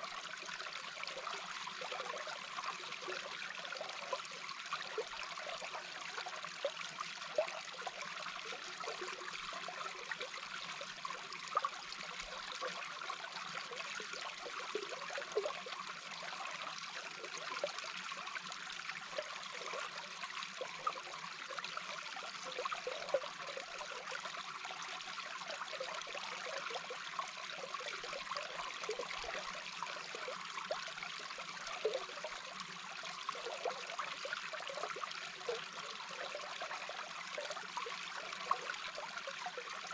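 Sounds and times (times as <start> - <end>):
underwater flowing water bubbling: 0.0 - 39.9.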